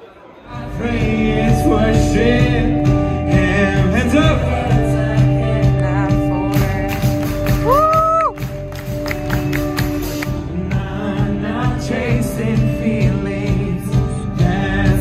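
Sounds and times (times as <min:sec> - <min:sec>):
amplified lead vocals singing: 0:00.3 - 0:07.8, 0:10.3 - 0:15.0
worship band playing: 0:00.4 - 0:15.0.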